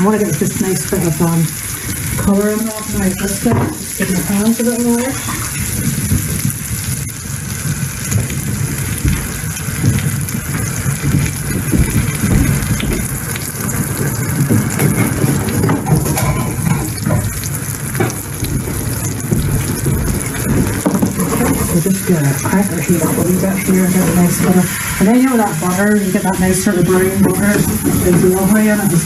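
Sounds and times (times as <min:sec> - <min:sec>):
fat spattering crackles: 0:00.0 - 0:29.0
meat sizzling in a pan: 0:00.0 - 0:29.0.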